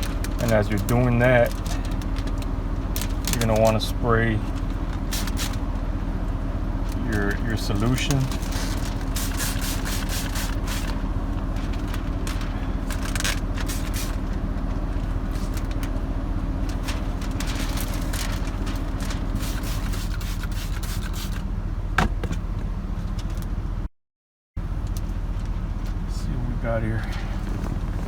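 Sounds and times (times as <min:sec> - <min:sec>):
steady low hum: 0:00.0 - 0:23.9, 0:24.6 - 0:28.0.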